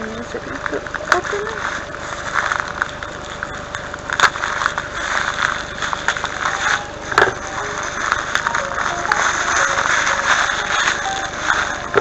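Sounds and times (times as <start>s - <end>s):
rustling of packaging and tape: 0.0s - 12.0s.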